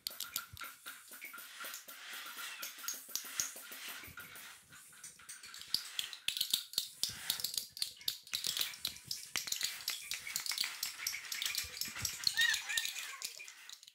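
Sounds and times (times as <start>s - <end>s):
irregular rattling and clicking: 0.0s - 13.9s.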